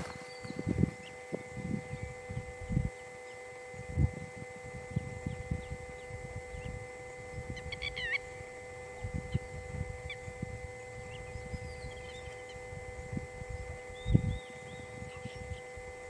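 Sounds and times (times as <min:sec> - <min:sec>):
bird chirps: 0:00.0 - 0:03.6, 0:05.2 - 0:12.7, 0:13.5 - 0:15.8
steady hum: 0:00.0 - 0:16.0.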